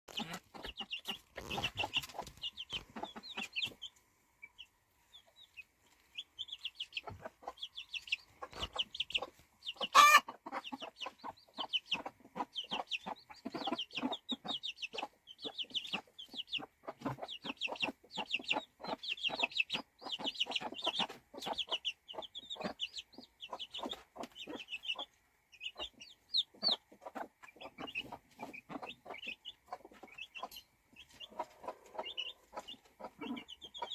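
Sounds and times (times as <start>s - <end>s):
baby chicks peeping: 0.1s - 33.9s.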